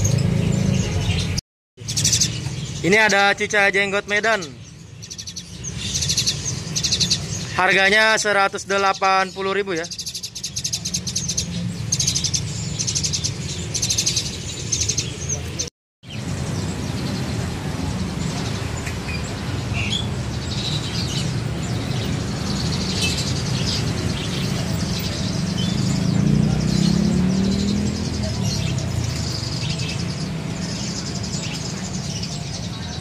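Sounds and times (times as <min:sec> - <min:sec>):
songbirds chirping and twittering: 0:00.0 - 0:33.0.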